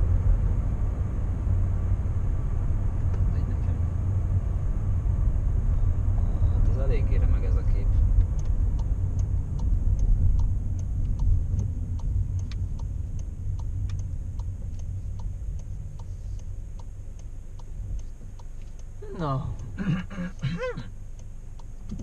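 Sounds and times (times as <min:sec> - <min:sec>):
engine and tyre rumble: 0:00.0 - 0:22.0
turn signal ticking: 0:02.0 - 0:22.0.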